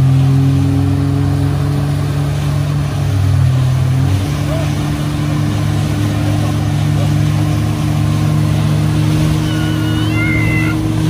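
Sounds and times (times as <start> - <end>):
churning wake water: 0.0 - 11.0
outboard motor running: 0.0 - 11.0.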